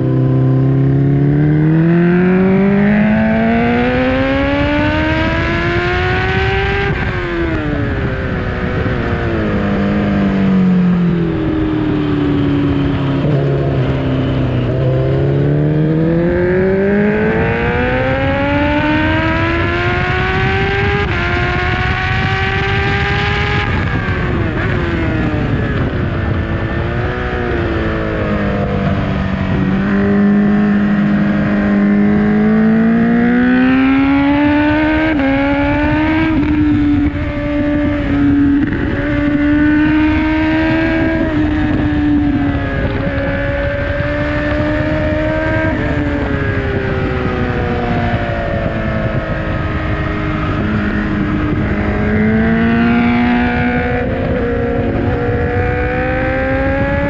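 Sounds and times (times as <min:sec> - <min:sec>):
motorcycle engine revving: 0:00.0 - 0:57.0
wind rush over camera: 0:01.8 - 0:57.0.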